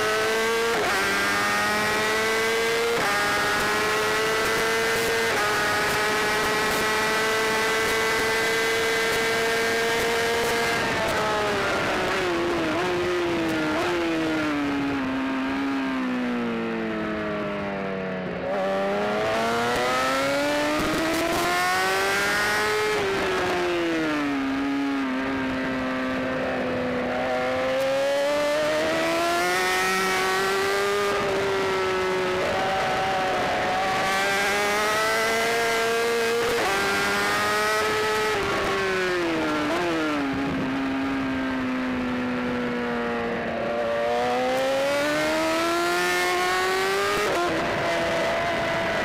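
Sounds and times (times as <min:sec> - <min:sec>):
motorbike engine revving: 0:00.0 - 0:16.4, 0:18.3 - 0:42.1, 0:43.0 - 0:49.0.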